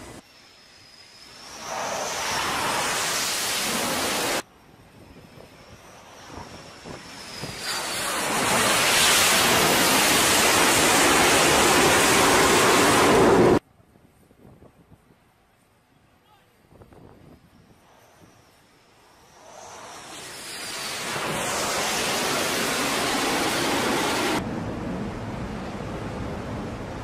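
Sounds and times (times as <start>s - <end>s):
high turbine whine: 0.0s - 13.6s, 16.7s - 27.0s
jet engine roar: 0.0s - 13.6s, 17.5s - 27.0s.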